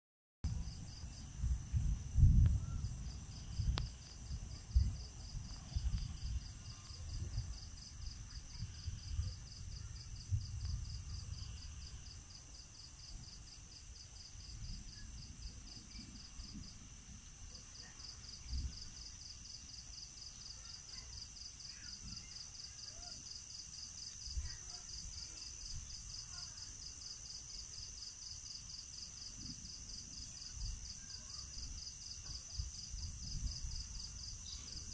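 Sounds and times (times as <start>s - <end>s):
night insects chirping: 0.5s - 34.9s.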